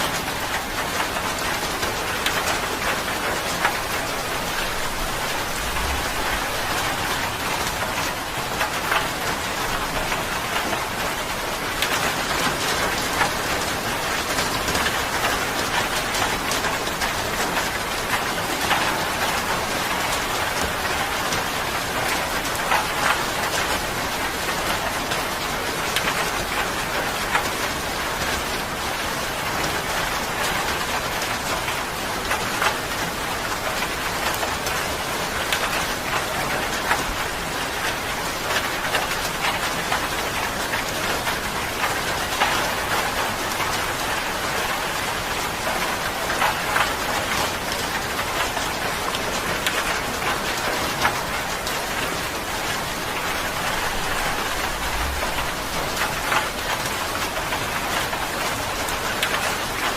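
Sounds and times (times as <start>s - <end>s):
rain falling on a surface: 0.0s - 59.9s.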